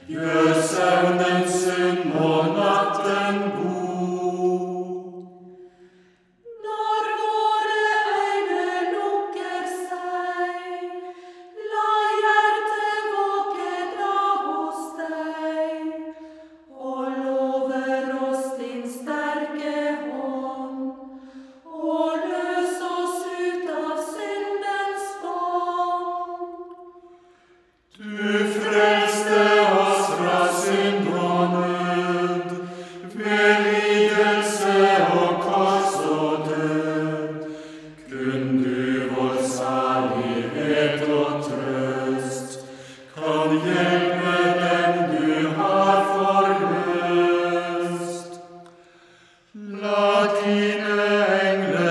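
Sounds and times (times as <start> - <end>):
unaccompanied voices singing hymn: 0.0 - 27.1, 27.9 - 48.8, 49.5 - 51.9.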